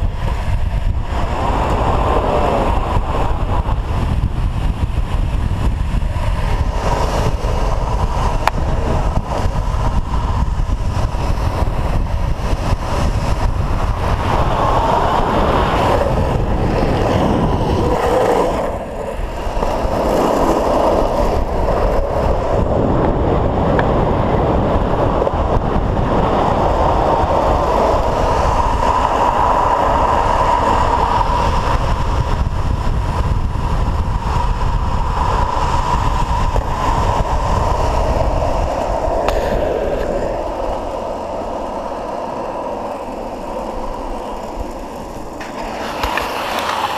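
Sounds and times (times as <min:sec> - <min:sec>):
skateboard wheels rolling on asphalt: 0:00.0 - 0:46.9
wind buffeting microphone: 0:00.0 - 0:46.9.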